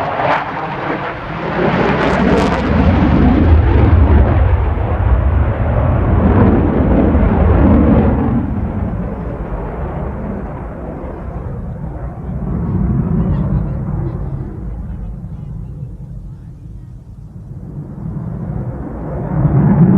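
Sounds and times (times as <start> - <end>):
jet engine rumble passing: 0.0 - 19.9.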